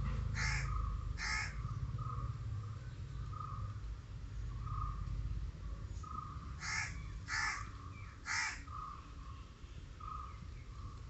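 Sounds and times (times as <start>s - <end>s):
harsh cawing bird calls: 0.0s - 5.2s, 6.0s - 11.0s.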